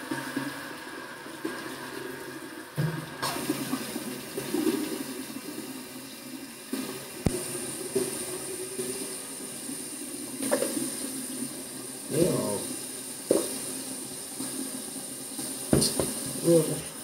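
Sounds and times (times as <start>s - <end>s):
water running into sink: 0.0s - 17.0s.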